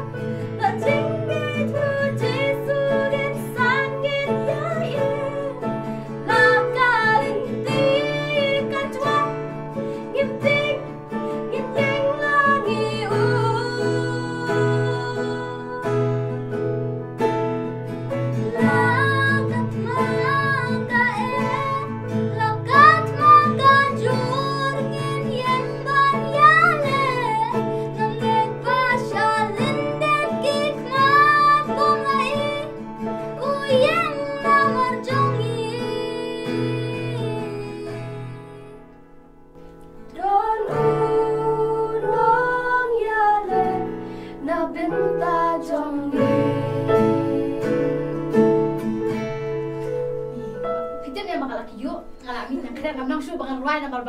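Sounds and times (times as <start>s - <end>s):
girls singing together: 0.0s - 5.6s, 6.2s - 16.1s, 18.5s - 32.8s, 33.4s - 38.9s, 40.1s - 48.8s
acoustic guitar: 0.0s - 54.0s.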